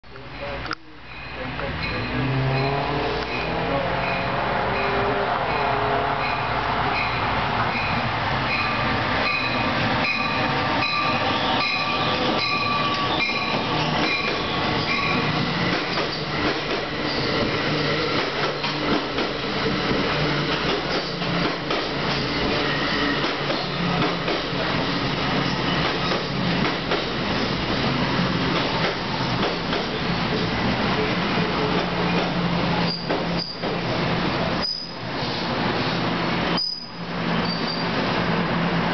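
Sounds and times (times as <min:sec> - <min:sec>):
train wheels rumbling on rails: 0:00.4 - 0:38.9.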